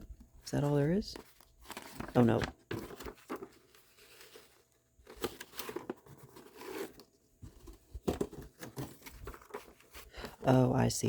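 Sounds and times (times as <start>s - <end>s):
paper rustling and crinkling: 0.5s - 10.8s.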